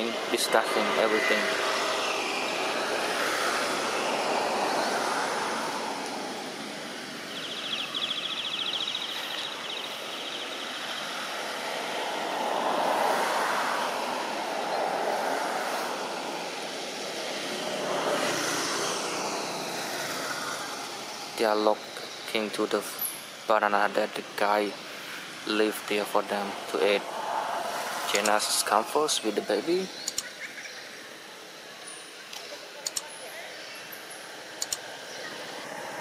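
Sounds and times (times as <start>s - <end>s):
rushing outdoor background noise: 0.0s - 36.0s.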